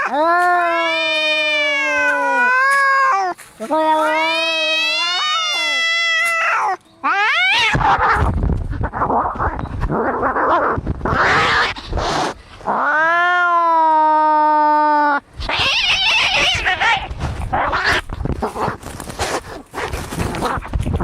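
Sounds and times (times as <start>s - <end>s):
cat yowling: 0.0s - 18.1s
cats screeching: 0.0s - 18.8s.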